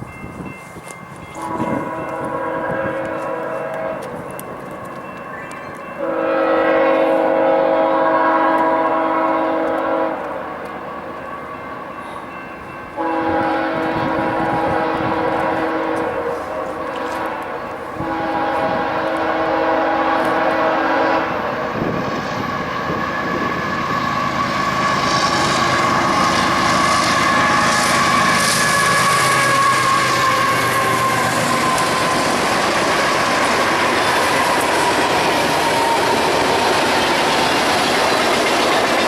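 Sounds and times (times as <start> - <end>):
train wheels clattering on rails: 0.0 - 6.4, 12.0 - 39.0
train horn chord: 1.3 - 37.6.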